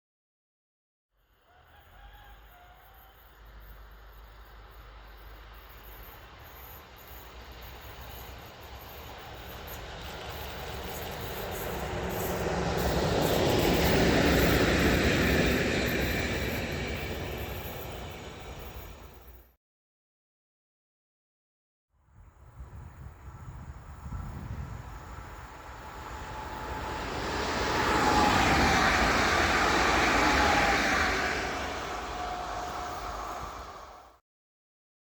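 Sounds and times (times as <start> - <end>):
train passing rumble: 1.4 - 19.5, 22.4 - 34.2.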